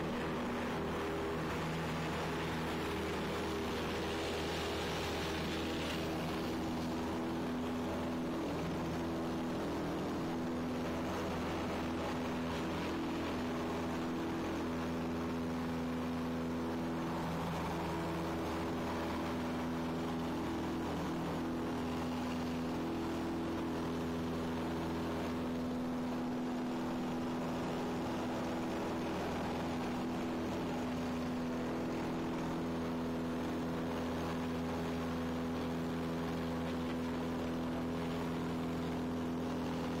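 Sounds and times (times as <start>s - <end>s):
airplane propeller engine drone: 0.0s - 40.0s.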